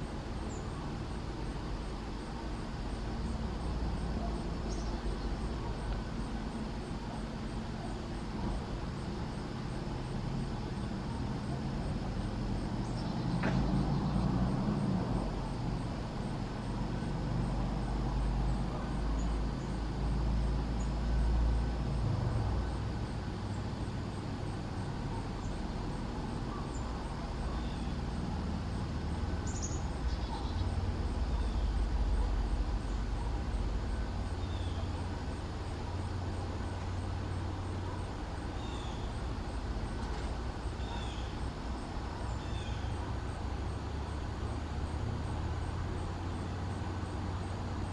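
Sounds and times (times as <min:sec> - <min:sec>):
distant road traffic rumble: 0:00.0 - 0:47.9.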